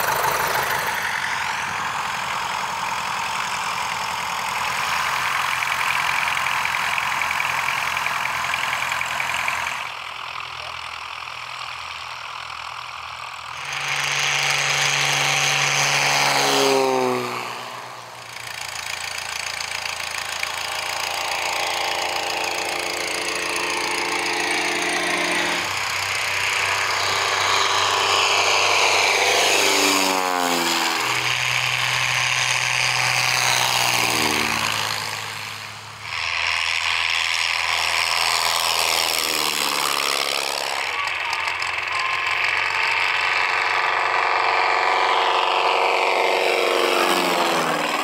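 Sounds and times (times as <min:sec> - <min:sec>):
light aircraft engine and propeller drone: 0:00.0 - 0:48.0.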